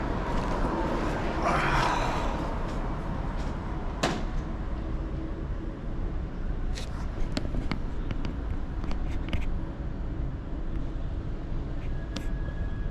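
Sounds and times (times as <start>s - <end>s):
wind and road noise: 0.0s - 12.9s.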